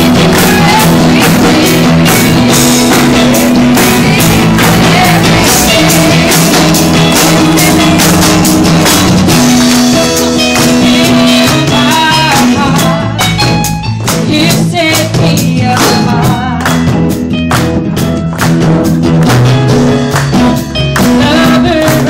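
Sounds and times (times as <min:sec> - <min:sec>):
person singing: 0:00.0 - 0:17.0, 0:20.8 - 0:22.0
drums: 0:00.0 - 0:22.0
live band playing worship song: 0:00.0 - 0:22.0.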